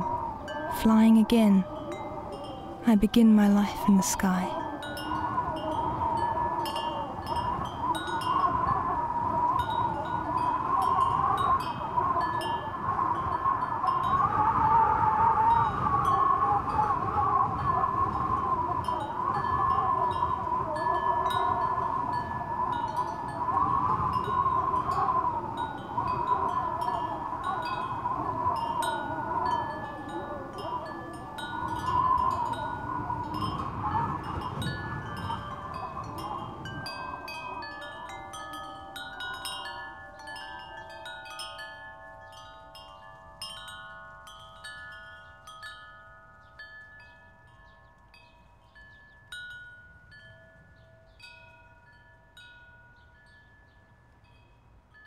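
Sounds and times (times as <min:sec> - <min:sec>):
wind chimes tinkling: 0:00.0 - 0:14.8, 0:15.5 - 0:55.0.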